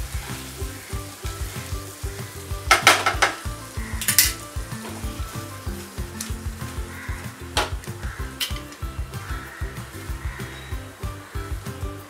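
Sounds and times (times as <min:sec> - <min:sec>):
food sizzling in wok: 0:00.0 - 0:12.0.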